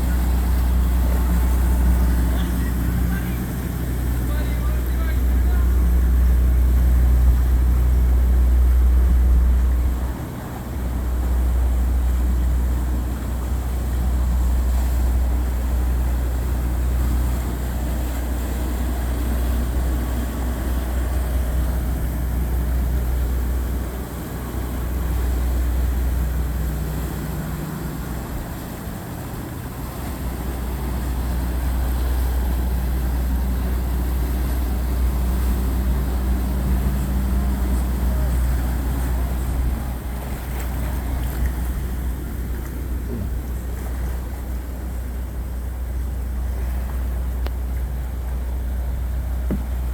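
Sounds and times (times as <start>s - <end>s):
faint engine hum: 0.0s - 49.9s
motorboat engines rumbling: 0.0s - 49.9s.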